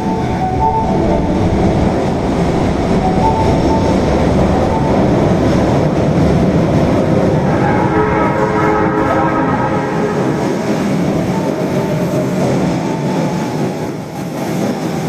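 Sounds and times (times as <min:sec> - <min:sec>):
higher steady tones: 0:00.0 - 0:12.1
subway car wheels rumbling: 0:00.0 - 0:15.0.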